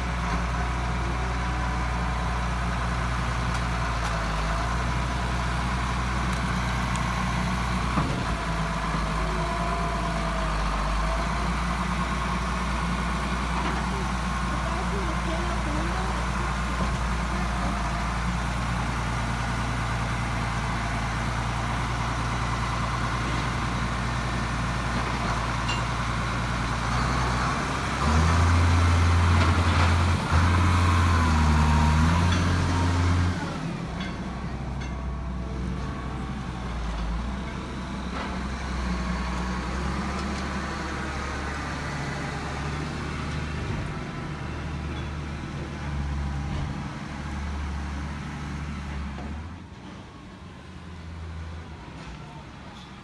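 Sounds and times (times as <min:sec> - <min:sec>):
heavy vehicle engine running: 0:00.0 - 0:53.0.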